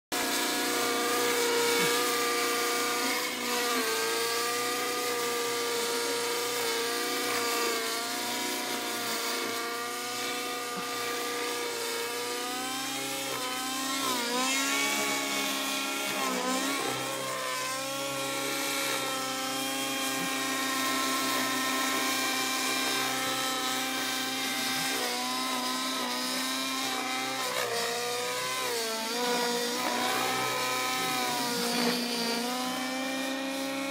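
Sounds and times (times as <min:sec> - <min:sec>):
rc helicopter rotor whine: 0:00.2 - 0:33.9.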